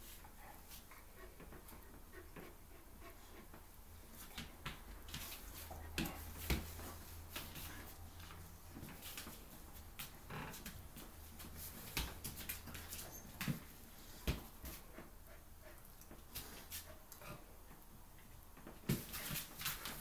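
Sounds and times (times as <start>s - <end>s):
dogs play-fighting scuffles: 0.0s - 20.0s.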